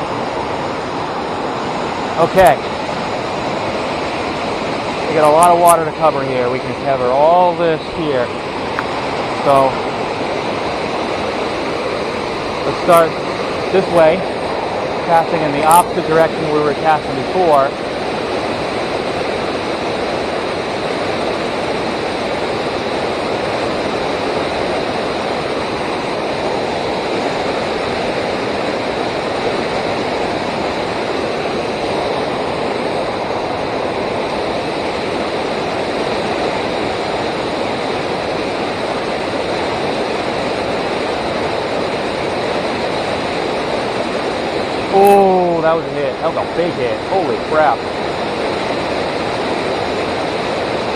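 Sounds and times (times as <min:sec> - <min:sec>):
fast-flowing river water: 0:00.0 - 0:50.9.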